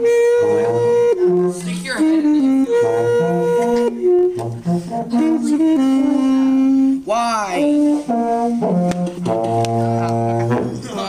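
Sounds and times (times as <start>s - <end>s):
saxophone: 0.0s - 11.0s.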